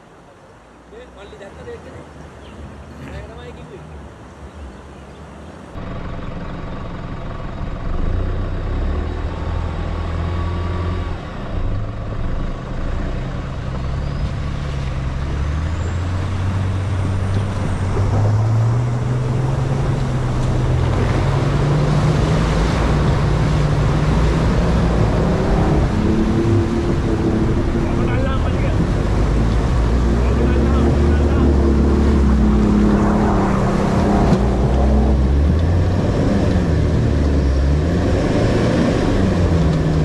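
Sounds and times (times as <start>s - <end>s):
vehicle engine revving under load: 6.9s - 40.0s.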